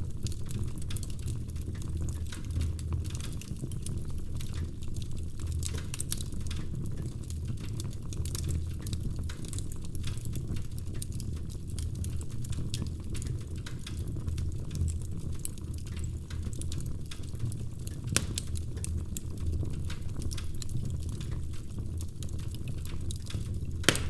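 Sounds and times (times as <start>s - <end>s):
low rumble of burning: 0.0s - 24.0s
wood fire crackling: 0.0s - 24.0s.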